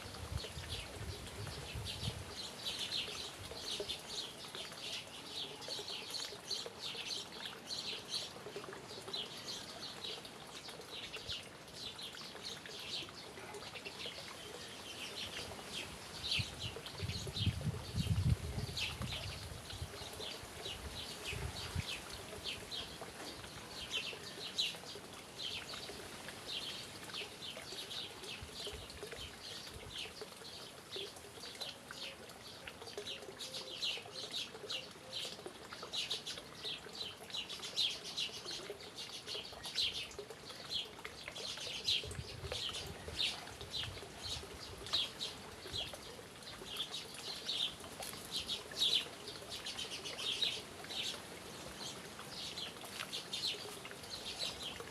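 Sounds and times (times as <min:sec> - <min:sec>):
faint steady background noise: 0:00.0 - 0:54.9
small birds chirping: 0:00.4 - 0:54.9.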